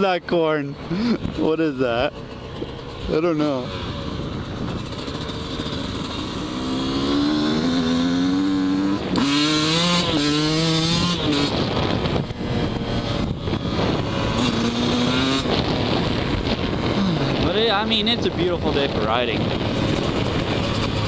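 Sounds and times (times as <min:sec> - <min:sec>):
dirt bike engine revving: 0:00.8 - 0:21.0
wind noise: 0:03.6 - 0:21.0.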